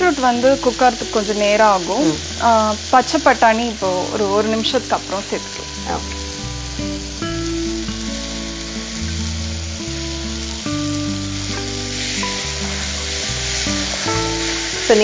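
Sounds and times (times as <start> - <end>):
background music of held notes: 0.0 - 15.0
food sizzling in a pot: 0.0 - 15.0.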